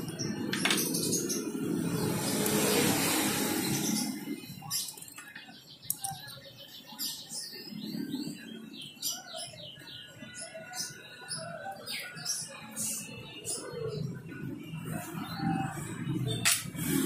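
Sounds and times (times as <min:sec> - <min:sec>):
small bird chirping and singing: 0:00.0 - 0:17.0.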